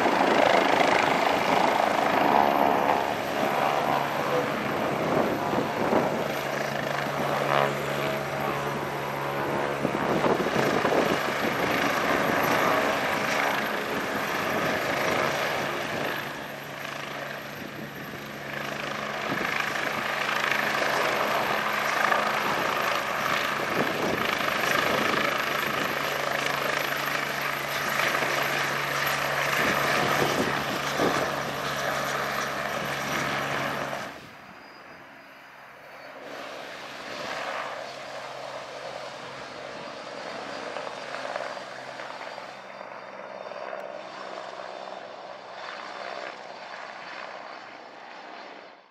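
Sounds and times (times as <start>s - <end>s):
faint distant helicopter: 0.0s - 48.9s
helicopter hovering and lifting off: 0.0s - 48.9s.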